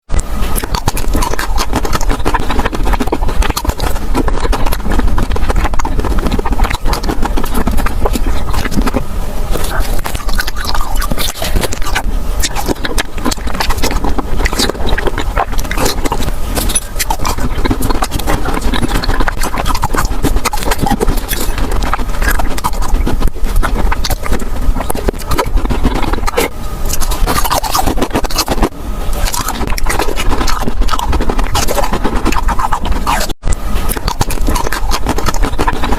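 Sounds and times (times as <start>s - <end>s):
crunchy bites of ice cream: 0.5s - 35.9s.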